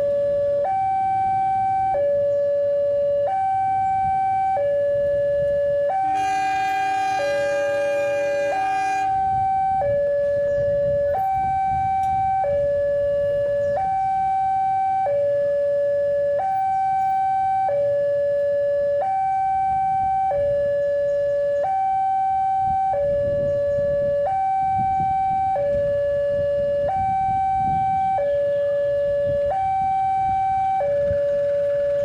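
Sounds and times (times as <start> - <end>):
two-tone crossing alarm: 0.0 - 32.0.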